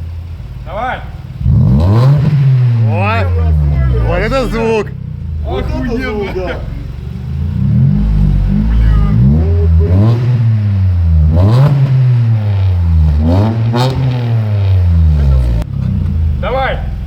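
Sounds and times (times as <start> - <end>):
car engine revving: 1.2 - 17.0.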